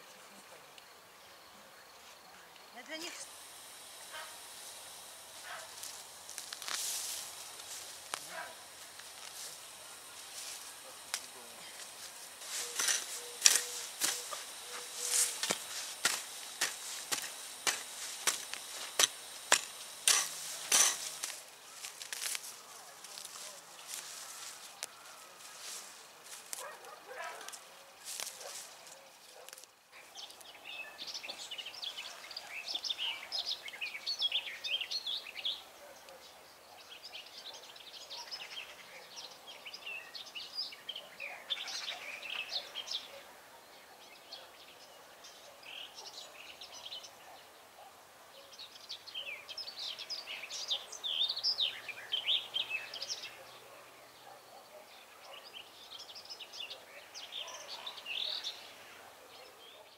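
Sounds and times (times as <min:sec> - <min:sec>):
faint outdoor background noise: 0:00.0 - 0:59.9
songbirds chirping: 0:00.0 - 0:59.9.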